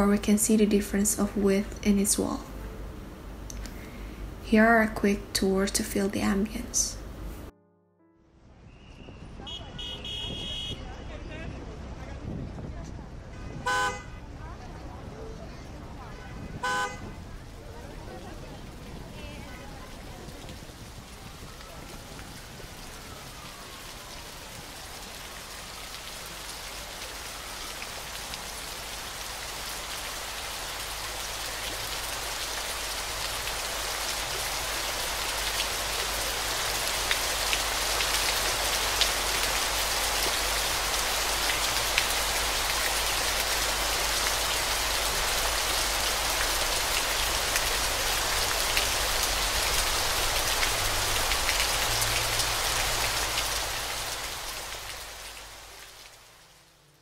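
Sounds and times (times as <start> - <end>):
rain-like falling water: 9.3 - 57.0.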